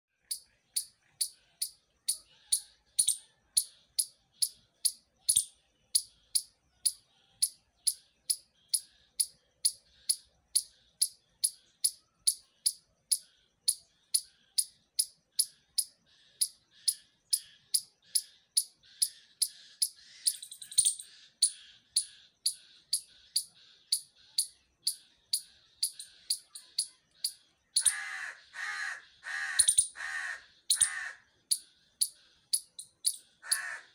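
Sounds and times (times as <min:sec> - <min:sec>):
harsh squirrel call: 0:00.1 - 0:33.9
squirrel chirping: 0:00.1 - 0:33.9.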